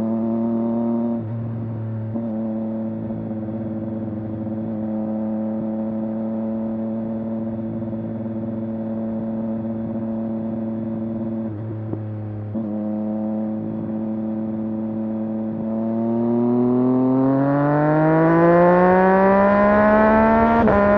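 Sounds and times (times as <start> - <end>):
motorcycle engine running steadily: 0.0 - 20.9.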